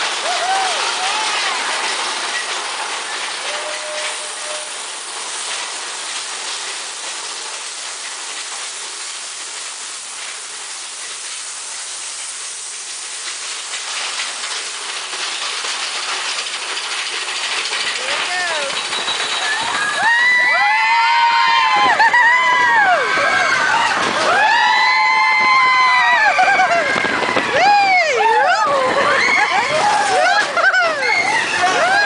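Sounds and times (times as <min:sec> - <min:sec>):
roller coaster running on track: 0:00.0 - 0:32.0
waterfall spray hissing: 0:00.0 - 0:32.0.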